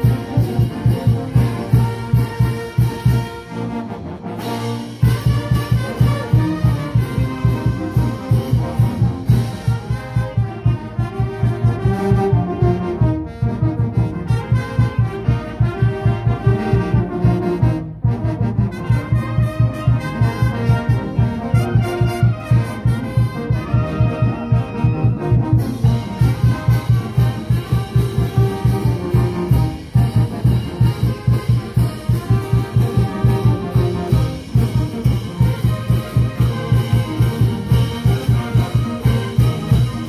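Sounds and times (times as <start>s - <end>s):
steady drumbeat: 0.0s - 3.5s, 4.4s - 13.2s, 18.6s - 40.0s
brass band playing: 0.0s - 40.0s.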